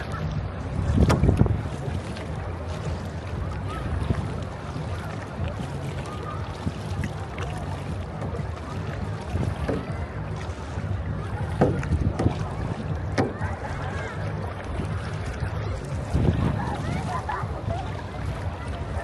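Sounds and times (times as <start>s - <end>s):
faint distant voices: 0.0s - 19.0s
sea: 0.0s - 19.0s
wind: 0.0s - 19.0s.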